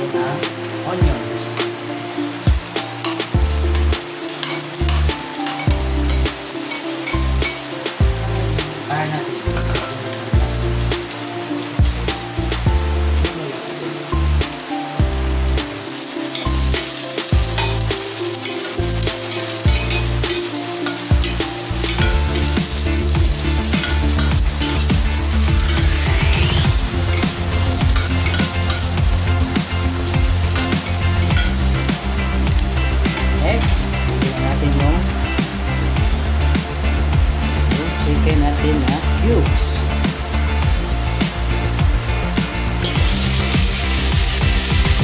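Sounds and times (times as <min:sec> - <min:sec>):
onions sizzling in oil: 0:00.0 - 0:45.0.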